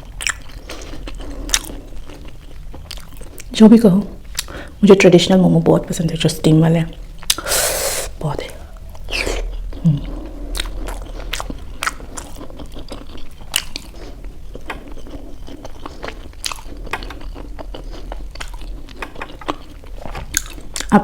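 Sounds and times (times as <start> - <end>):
chewing and biting food: 0.0 - 4.7, 8.8 - 21.0
low background hum: 0.0 - 21.0.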